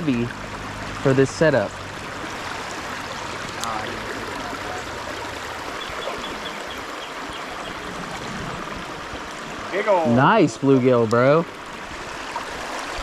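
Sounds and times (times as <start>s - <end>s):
creek flowing over rocks: 0.0s - 13.0s.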